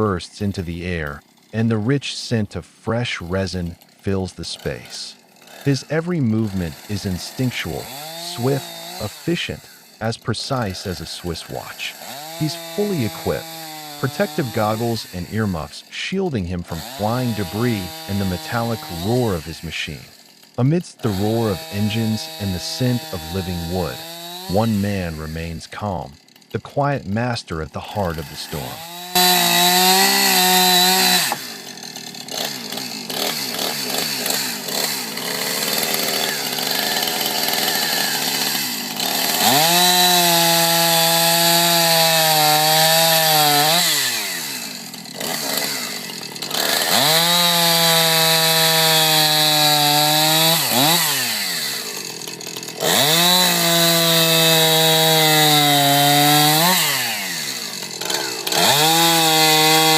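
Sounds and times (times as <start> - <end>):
chainsaw running at full throttle: 0.0 - 59.9.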